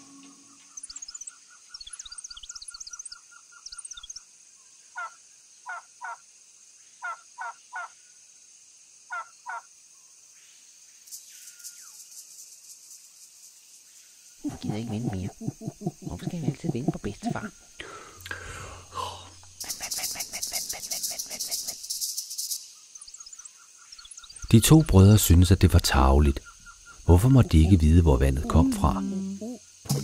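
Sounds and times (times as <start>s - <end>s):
insects hissing: 0.0s - 30.0s.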